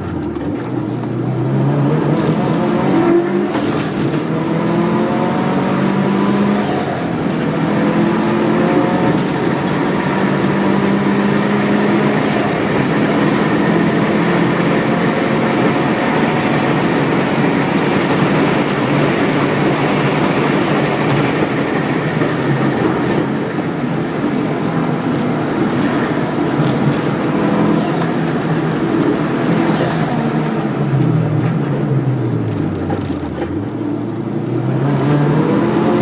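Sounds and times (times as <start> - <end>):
race car engine running hard: 0.0 - 36.0
road noise: 0.0 - 36.0.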